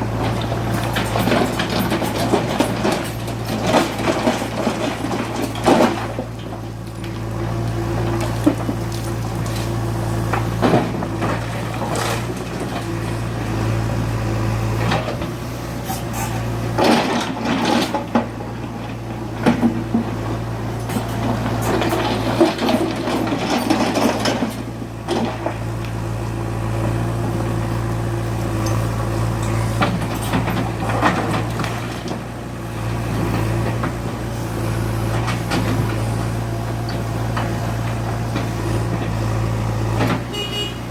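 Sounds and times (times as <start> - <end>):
backhoe diesel engine running: 0.0 - 40.9.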